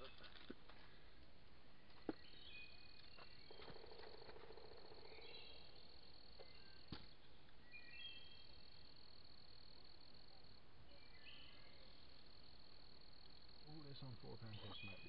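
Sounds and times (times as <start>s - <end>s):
crickets trilling: 2.0s - 15.0s.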